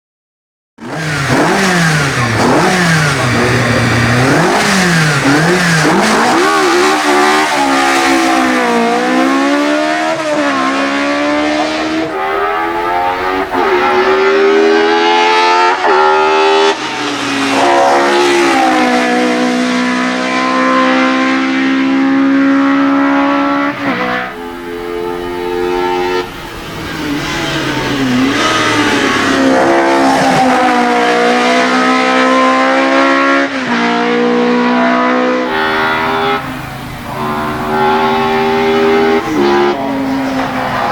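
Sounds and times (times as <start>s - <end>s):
race engine revving: 0.8s - 40.9s.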